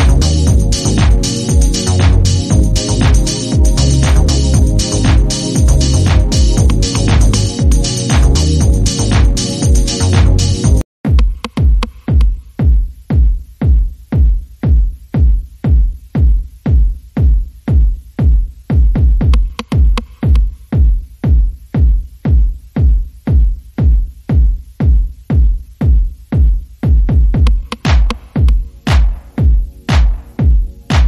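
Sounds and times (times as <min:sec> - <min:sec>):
electronic music with heavy bass beat: 0:00.0 - 0:31.0.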